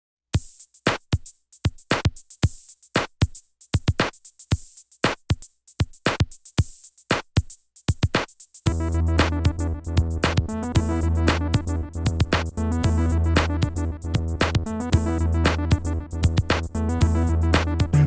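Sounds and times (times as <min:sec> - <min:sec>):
drum machine beat: 0:00.4 - 0:18.0.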